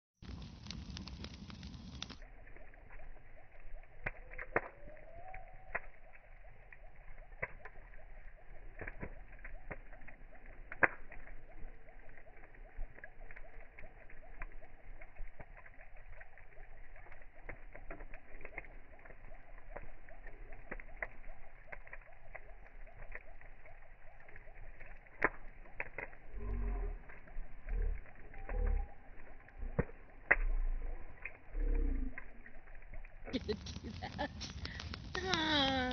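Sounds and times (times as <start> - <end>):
sharp pops and snaps: 0.2 - 2.3, 3.8 - 6.2, 6.8 - 35.9
wood fire crackling: 0.2 - 35.9.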